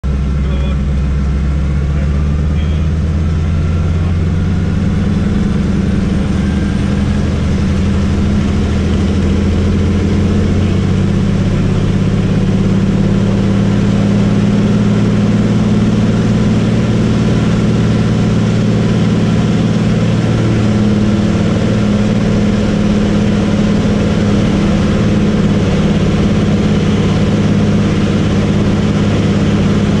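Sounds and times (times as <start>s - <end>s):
radial engine and propeller: 0.0s - 30.0s.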